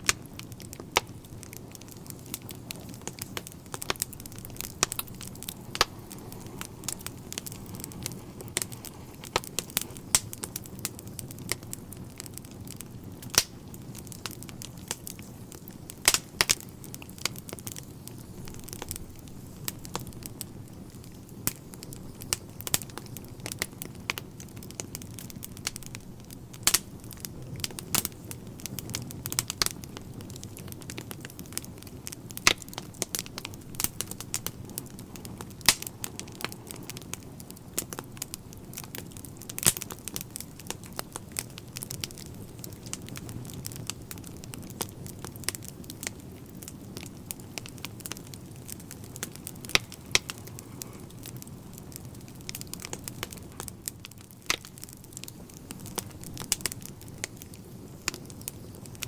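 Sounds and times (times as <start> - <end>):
low rumble of fire: 0.0 - 59.0
wood fire popping and snapping: 0.0 - 59.0.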